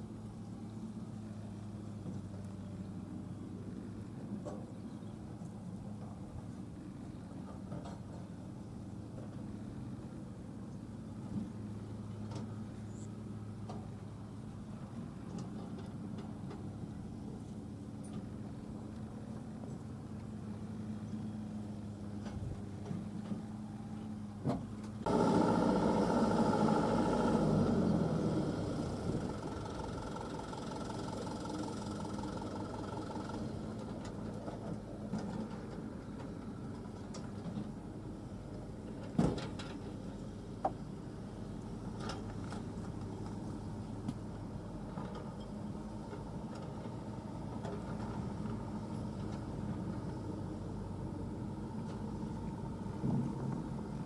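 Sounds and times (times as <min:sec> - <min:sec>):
heavy diesel machinery running: 0:05.6 - 0:54.0.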